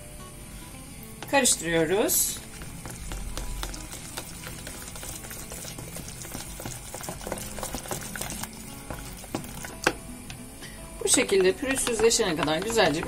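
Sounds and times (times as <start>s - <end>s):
whisk beating batter in bowl: 1.3s - 10.0s, 11.0s - 13.0s.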